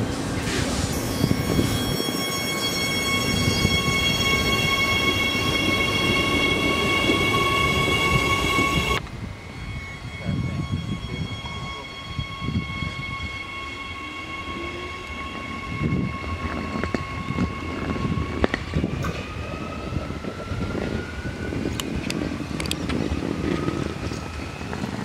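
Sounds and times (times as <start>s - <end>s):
electric train drive whining: 0.0s - 25.0s
wheels rumbling on track: 0.0s - 25.0s.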